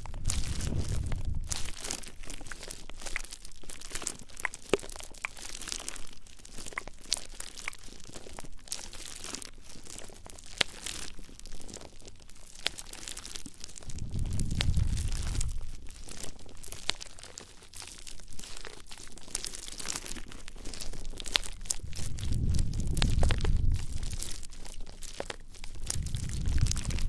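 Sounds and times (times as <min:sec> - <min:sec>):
crackling and scratching on microphone: 0:00.0 - 0:27.0.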